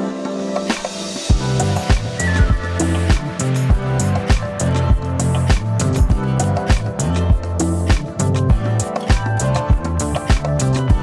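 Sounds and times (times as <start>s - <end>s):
bass line: 1.3s - 11.0s.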